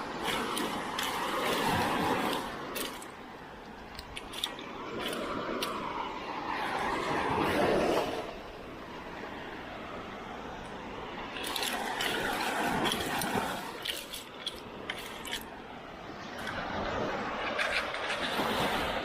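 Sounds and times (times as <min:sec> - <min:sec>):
seawater sloshing and splashing: 0:00.0 - 0:19.0.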